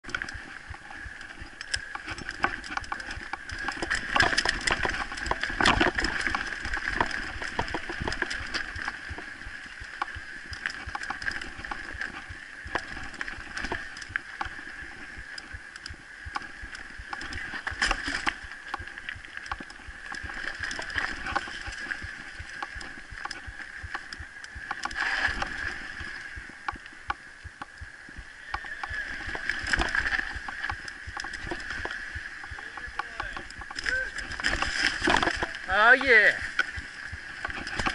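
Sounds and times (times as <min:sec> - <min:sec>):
mountain bike rattling: 0:00.0 - 0:15.5, 0:16.3 - 0:26.2, 0:28.6 - 0:37.9.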